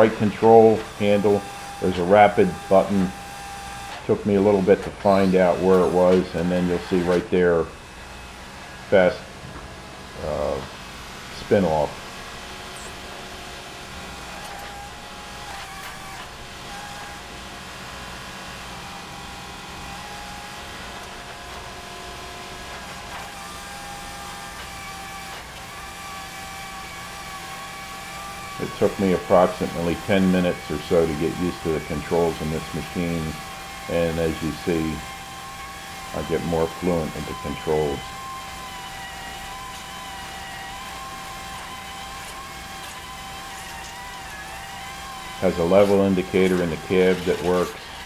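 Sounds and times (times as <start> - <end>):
drill rig machine drone: 0.0 - 48.0
thin whining tones: 0.0 - 48.0.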